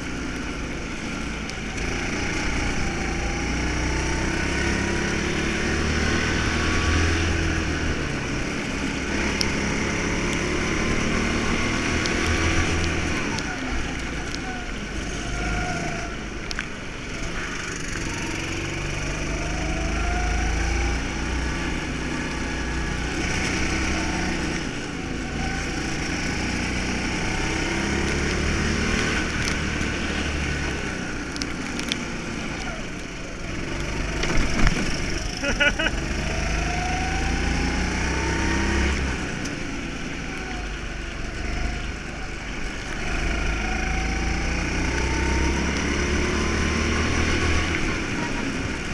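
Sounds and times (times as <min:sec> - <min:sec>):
go-kart engine revving: 0:00.0 - 0:48.9.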